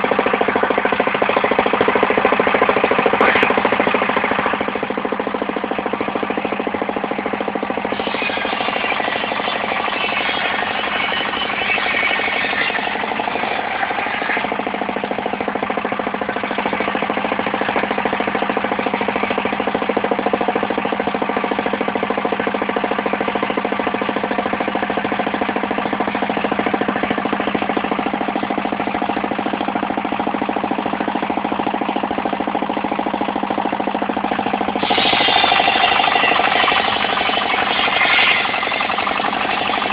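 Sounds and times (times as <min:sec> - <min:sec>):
harsh cutting sound: 0:00.0 - 0:39.9
sawmill engine running: 0:00.0 - 0:39.9.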